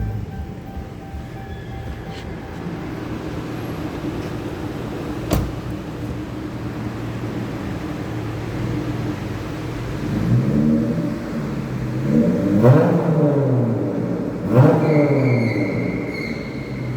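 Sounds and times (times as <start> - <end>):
car exhaust idling: 0.0 - 16.9.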